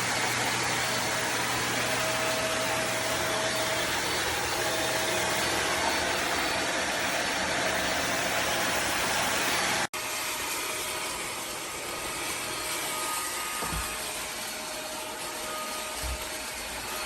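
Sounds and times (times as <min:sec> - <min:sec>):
stick vacuum running: 0:00.0 - 0:17.0.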